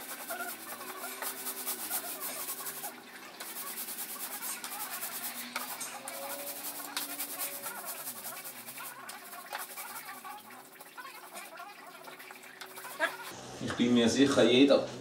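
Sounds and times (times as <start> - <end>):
paint roller on concrete: 0.0 - 13.4.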